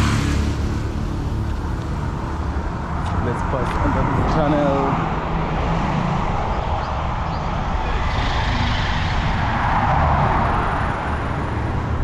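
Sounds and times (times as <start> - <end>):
car driving road noise: 0.0 - 12.0
wind noise: 2.4 - 12.0.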